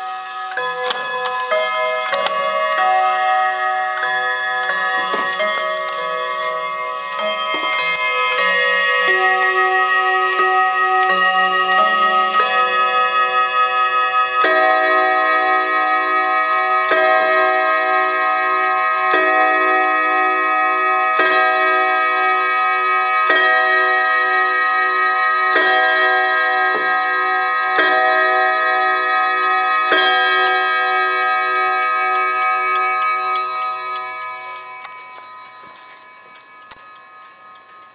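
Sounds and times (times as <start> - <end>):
clock chime tune on gong rods: 0.0 - 37.9
pendulum clock ticking: 0.0 - 37.9.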